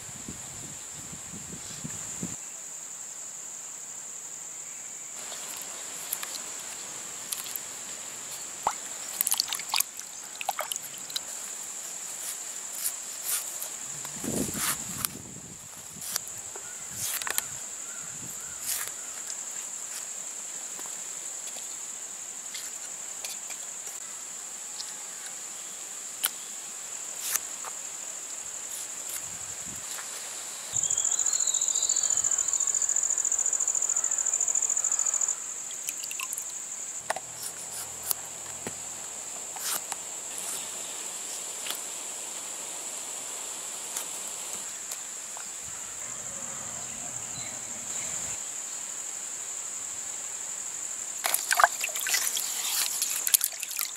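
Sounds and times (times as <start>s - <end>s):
insect chirring: 0.1s - 53.9s.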